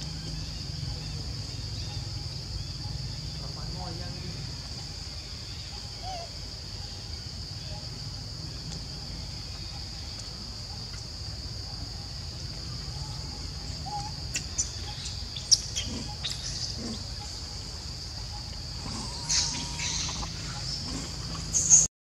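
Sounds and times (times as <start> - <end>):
high-pitched insect drone: 0.0 - 21.9.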